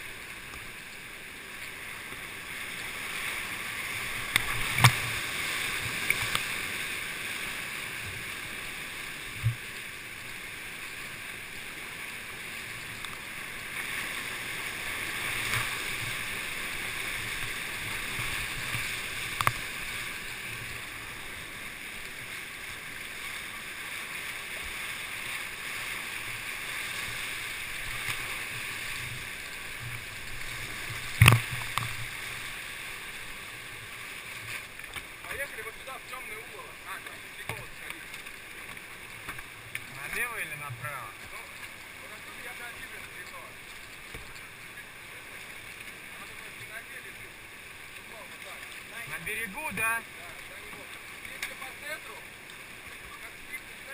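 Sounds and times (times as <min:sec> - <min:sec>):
whitewater rapid rushing: 0:00.0 - 0:53.9.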